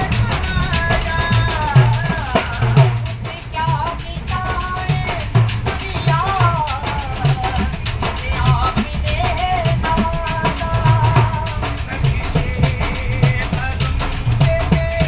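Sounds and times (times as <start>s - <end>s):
hand drum beaten by hand: 0.0s - 15.0s
man singing loudly: 0.0s - 15.0s.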